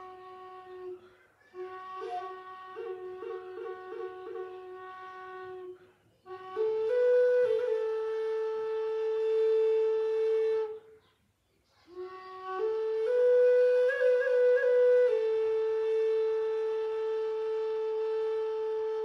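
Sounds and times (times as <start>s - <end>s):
wooden flute melody: 0.0s - 11.0s, 11.9s - 19.0s.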